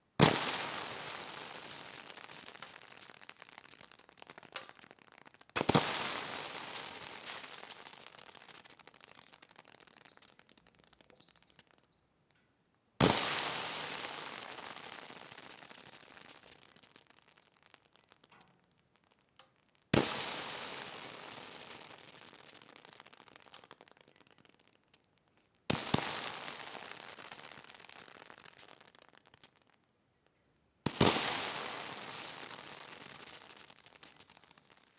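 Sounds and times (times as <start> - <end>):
water sizzling on hot surface: 0.0 - 11.9, 13.0 - 25.0, 25.7 - 29.8, 30.9 - 34.9.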